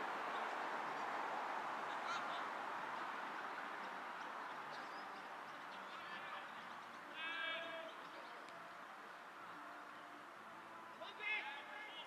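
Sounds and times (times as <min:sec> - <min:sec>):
steady open-air hiss: 0:00.0 - 0:12.0.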